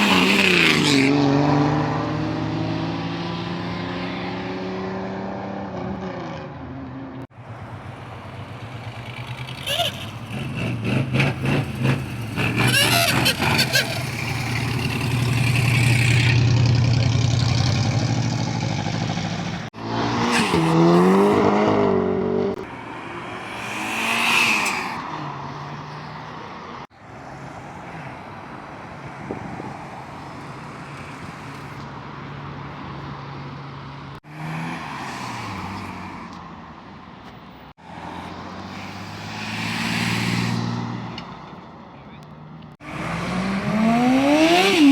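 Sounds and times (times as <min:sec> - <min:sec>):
vehicle engines revving: 0:00.0 - 0:44.9.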